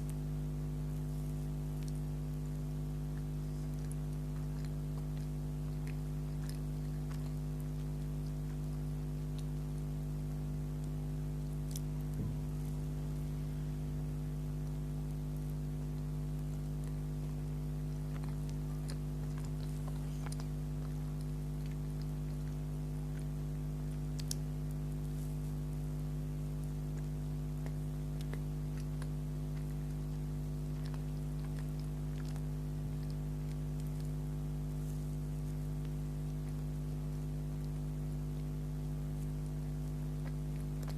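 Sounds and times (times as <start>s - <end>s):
chewing and mouth clicks: 0.0s - 40.9s
low electrical hum: 0.0s - 40.9s.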